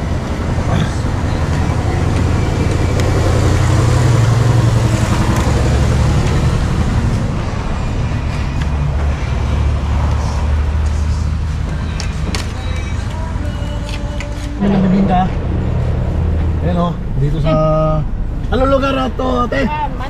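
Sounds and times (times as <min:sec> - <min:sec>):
vehicle engine passing: 0:00.0 - 0:13.5, 0:14.5 - 0:20.0.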